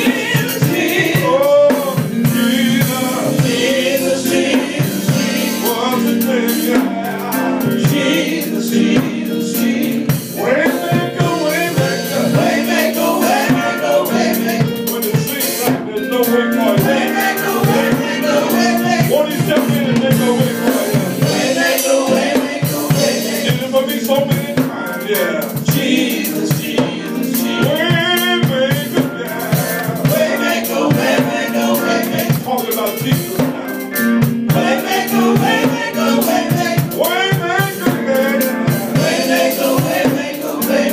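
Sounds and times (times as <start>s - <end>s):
backing voices singing: 0.0s - 40.9s
drum kit: 0.0s - 40.9s
held instrumental chords: 0.0s - 40.9s
lead singer on microphone: 0.0s - 40.9s.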